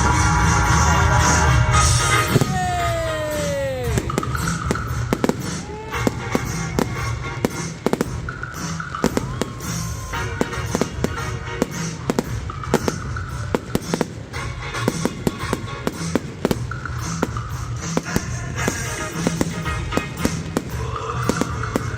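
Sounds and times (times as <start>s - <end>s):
fireworks bangs and crackles: 0.0s - 21.9s
music: 0.0s - 21.9s.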